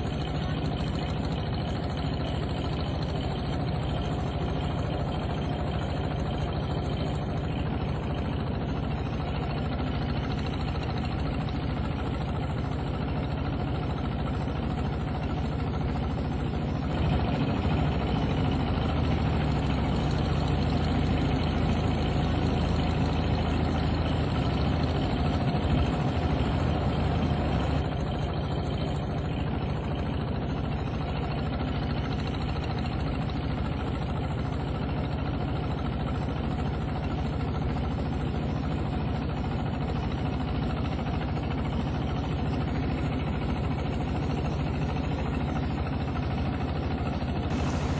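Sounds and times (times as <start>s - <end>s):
boat motor running: 0.0s - 47.9s.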